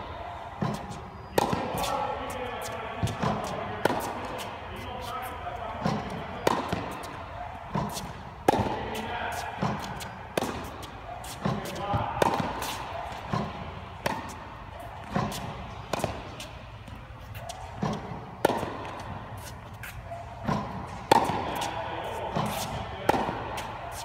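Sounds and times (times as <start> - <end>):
racket hitting tennis ball: 0.4 - 24.0
balls bouncing on hard court: 0.6 - 24.0.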